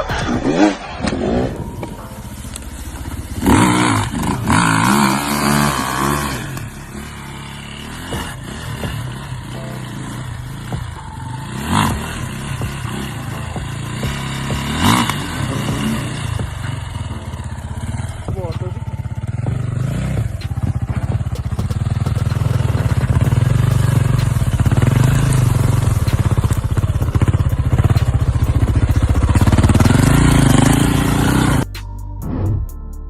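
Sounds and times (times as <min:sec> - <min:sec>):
off-road vehicle engine revving: 0:00.0 - 0:31.7.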